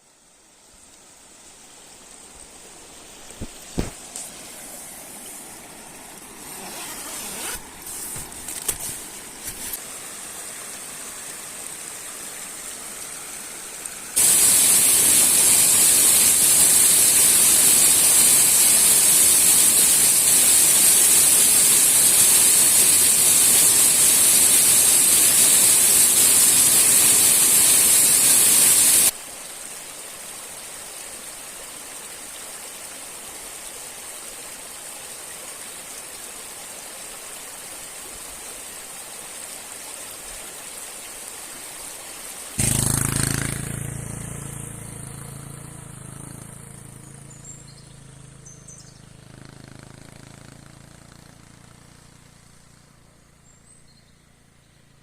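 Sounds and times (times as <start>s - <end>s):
loud hissy water rush: 0.0s - 52.3s
river water rushing: 1.0s - 52.8s.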